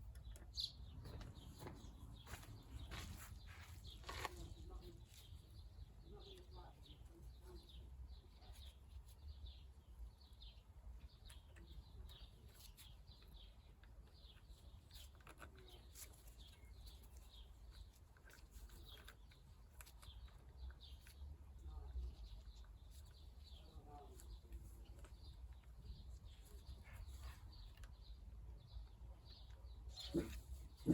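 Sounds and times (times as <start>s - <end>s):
small bird chirping: 0.0s - 30.9s.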